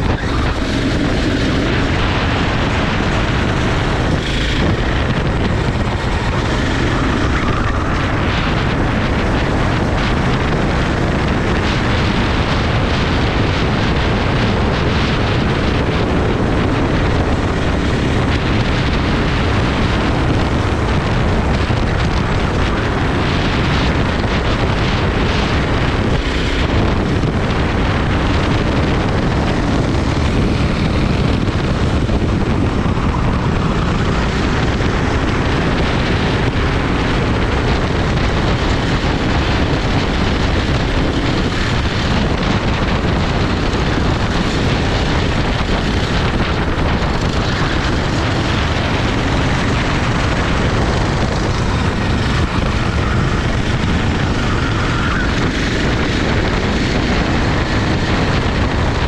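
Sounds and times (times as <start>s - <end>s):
kart engine droning: 0.0s - 59.0s.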